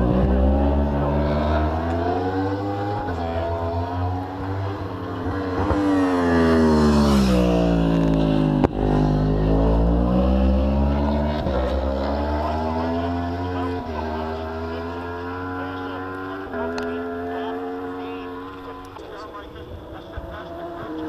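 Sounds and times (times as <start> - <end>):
racing motorcycle passing at speed: 0.0 - 21.0.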